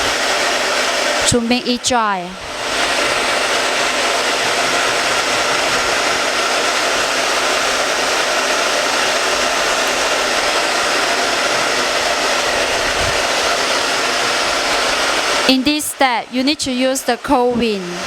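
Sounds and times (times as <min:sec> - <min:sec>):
hot-air blower rushing air: 0:00.0 - 0:18.0.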